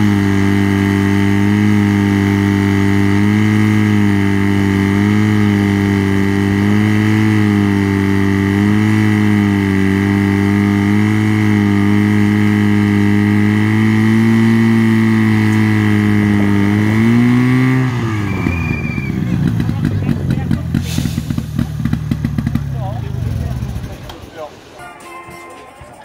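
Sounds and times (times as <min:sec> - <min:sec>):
pump petrol engine running: 0:00.0 - 0:24.5.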